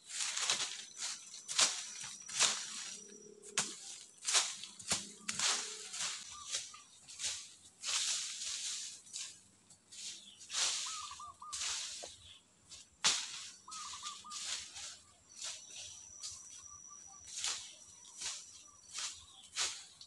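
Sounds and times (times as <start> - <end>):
bird chirping: 0.0 - 12.8, 13.4 - 20.0
rustling of leaf litter: 0.0 - 20.0.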